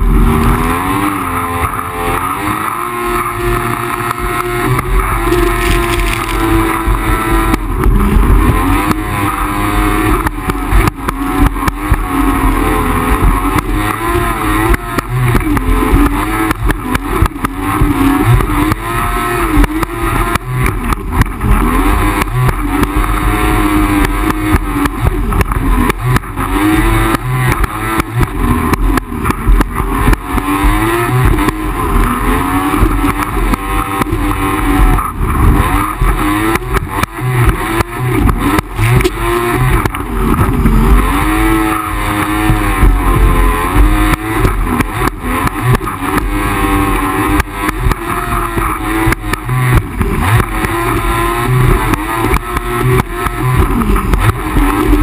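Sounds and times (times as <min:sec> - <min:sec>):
jet ski engine running: 0:00.0 - 0:55.0.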